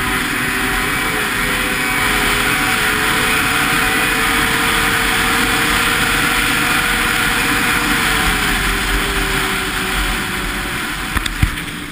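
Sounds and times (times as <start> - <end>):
snowmobile engine whine: 0.0 - 11.9
steady rushing noise: 0.0 - 11.9.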